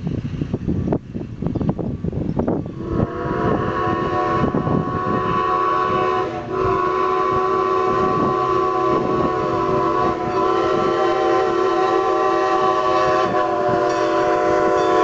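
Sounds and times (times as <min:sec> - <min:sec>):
steam exhaust chuffs: 0:00.0 - 0:15.0
steam whistle blowing: 0:02.7 - 0:15.0.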